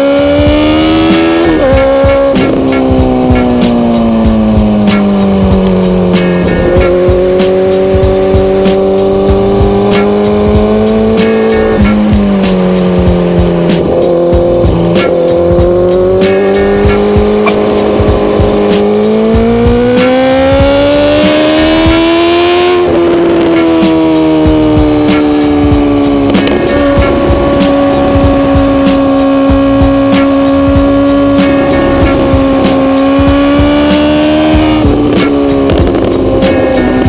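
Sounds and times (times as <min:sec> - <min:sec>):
background music with steady beat: 0:00.0 - 0:37.0
motorcycle engine at high revs: 0:00.0 - 0:37.0.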